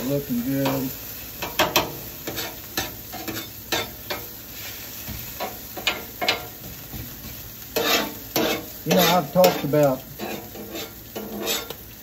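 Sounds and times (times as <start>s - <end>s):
food sizzling on a griddle: 0.0s - 12.0s
metal spatula scraping and tapping: 1.4s - 4.3s, 5.1s - 11.8s.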